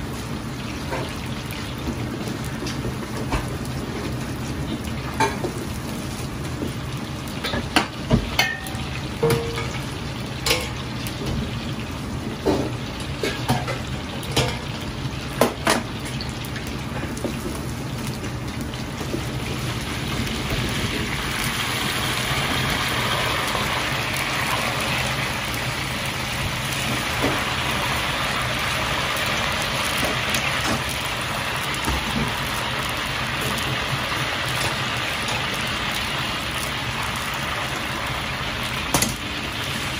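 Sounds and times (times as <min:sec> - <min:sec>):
oil sizzling in a wok: 0:00.0 - 0:39.9.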